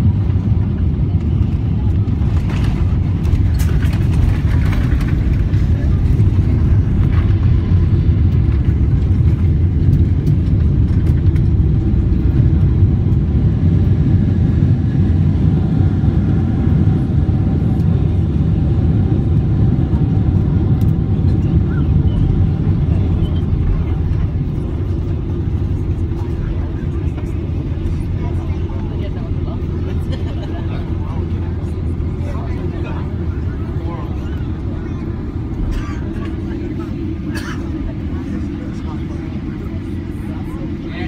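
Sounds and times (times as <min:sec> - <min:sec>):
airplane cabin low rumble: 0:00.0 - 0:41.0.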